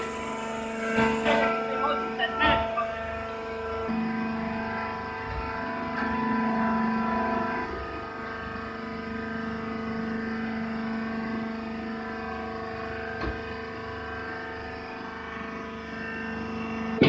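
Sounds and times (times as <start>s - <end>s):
hydraulic machine hum: 0.0s - 17.0s.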